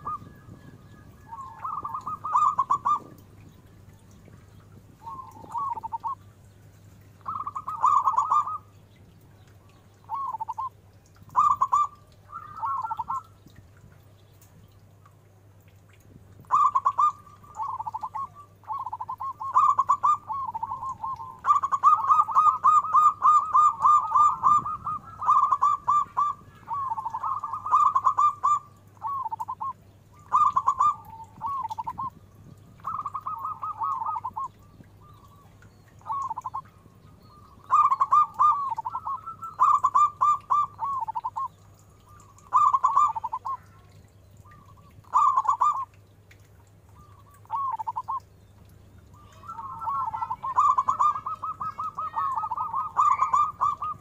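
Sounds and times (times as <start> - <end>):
dove cooing: 0.0 - 6.2, 7.2 - 8.7, 10.0 - 13.9, 16.4 - 46.0, 47.0 - 48.2, 49.1 - 54.0.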